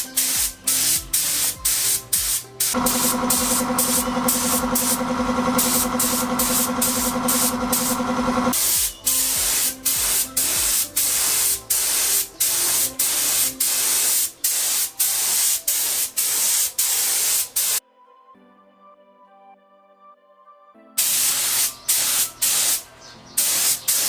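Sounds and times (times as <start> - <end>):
spray gun hissing: 0.0 - 17.8, 21.0 - 22.8, 23.4 - 24.0
faint background music: 0.0 - 24.0.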